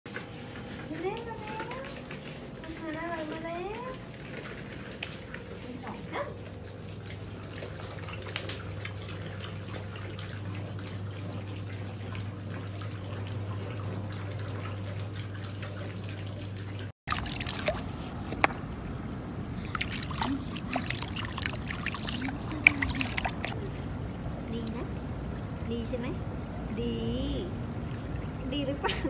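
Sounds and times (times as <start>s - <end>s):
water trickling and splashing: 0.1s - 29.0s
steady low hum: 0.2s - 29.0s.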